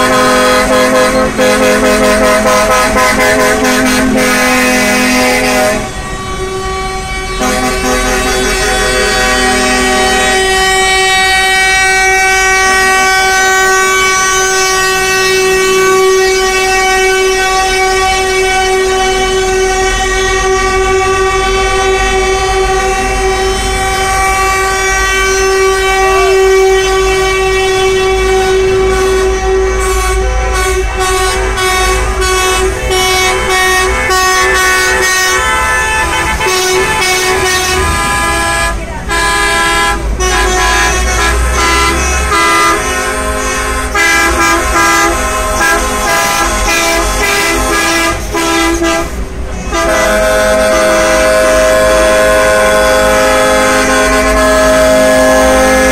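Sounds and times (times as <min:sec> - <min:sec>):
diesel engines rumbling: 0:00.0 - 0:55.9
truck horns sounding: 0:00.0 - 0:55.9.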